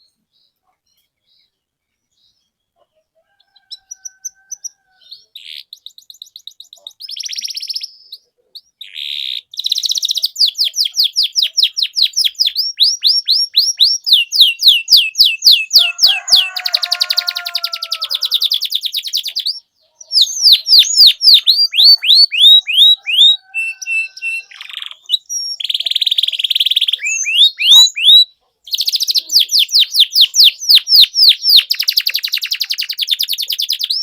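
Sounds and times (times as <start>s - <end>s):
canary singing trills: 0.0s - 34.0s.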